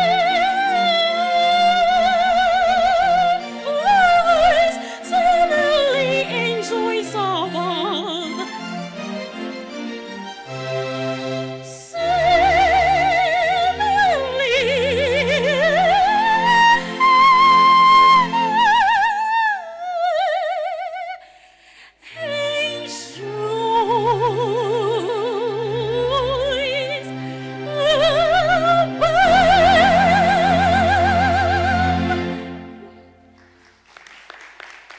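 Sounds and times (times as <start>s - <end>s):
soprano singing operatic aria: 0.0s - 8.6s, 11.6s - 33.2s
instrumental accompaniment: 0.0s - 18.9s, 22.1s - 34.1s.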